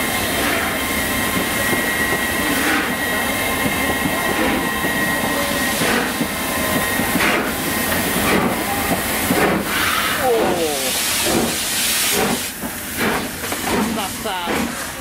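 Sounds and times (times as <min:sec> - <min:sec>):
steam locomotive exhaust beats: 0:00.0 - 0:15.0.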